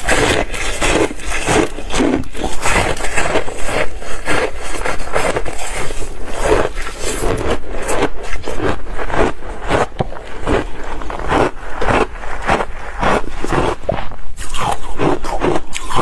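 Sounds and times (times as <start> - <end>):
ice being crunched and chewed: 0.0 - 16.0.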